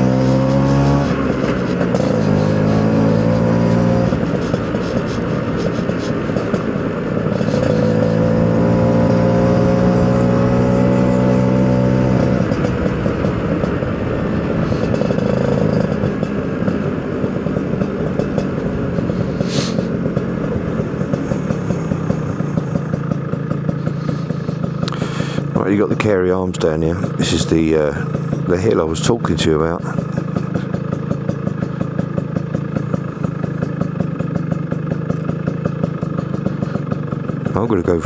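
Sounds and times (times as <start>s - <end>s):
two-stroke motorcycle engine: 0.0s - 38.0s.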